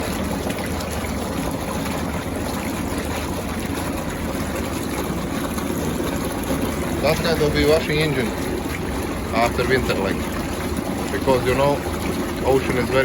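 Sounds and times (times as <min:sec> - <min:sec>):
boat engine running: 0:00.0 - 0:13.0
water trickling and splashing: 0:00.0 - 0:13.0.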